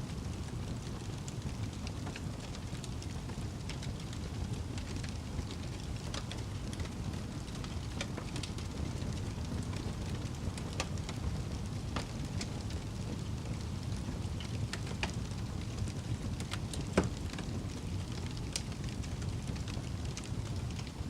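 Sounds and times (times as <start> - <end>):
wood fire roaring: 0.0 - 21.0
fire crackling and popping: 0.1 - 21.0.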